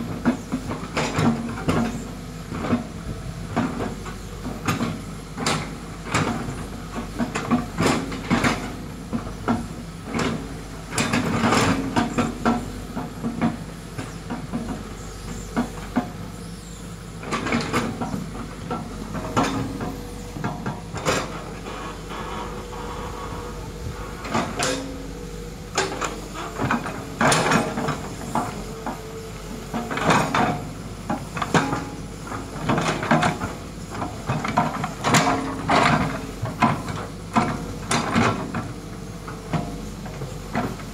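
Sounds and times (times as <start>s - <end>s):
excavator bucket clanking: 0.0s - 16.4s, 17.1s - 40.9s
excavator diesel engine running: 0.0s - 40.9s
excavator scraping soil: 0.1s - 40.9s.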